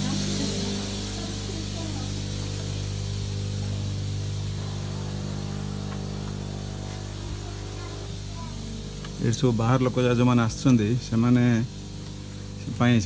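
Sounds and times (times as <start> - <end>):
low machine hum: 0.0 - 13.0
steady hiss: 0.0 - 13.0.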